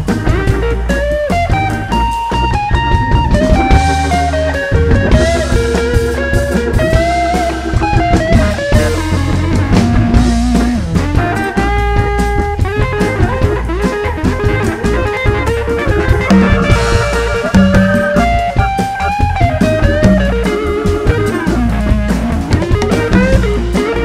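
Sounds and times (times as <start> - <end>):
bass: 0.0 - 24.0
drum kit: 0.0 - 24.0
electric guitar lead with bent notes: 0.0 - 24.0.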